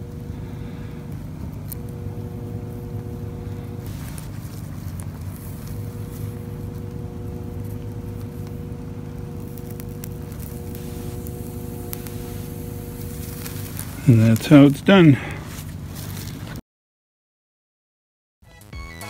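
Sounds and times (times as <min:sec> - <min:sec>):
flux crackling: 0:00.0 - 0:16.6
steady hum: 0:00.0 - 0:16.6
torch flame hissing: 0:00.0 - 0:16.6.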